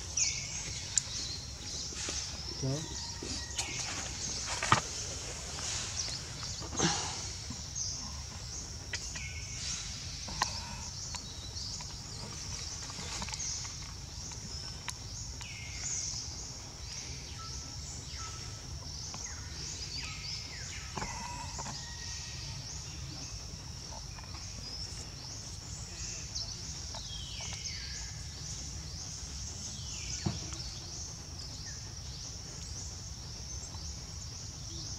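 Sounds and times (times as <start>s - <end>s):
birds chirping: 0.0s - 34.9s
low background rumble: 0.0s - 34.9s.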